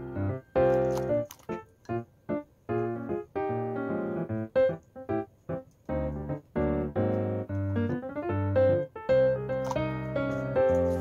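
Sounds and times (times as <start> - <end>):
bouncy keyboard tune: 0.0 - 11.0.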